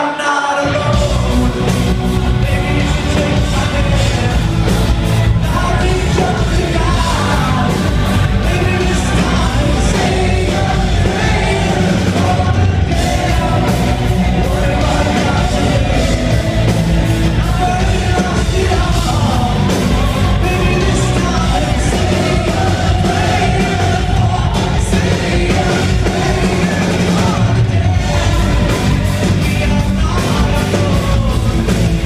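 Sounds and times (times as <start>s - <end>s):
lead vocals singing: 0.0s - 32.0s
live hard rock band playing: 0.1s - 32.0s.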